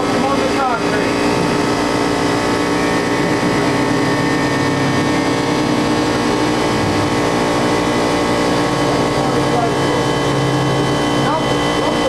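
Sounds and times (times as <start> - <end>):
loud engine hum: 0.0 - 12.0.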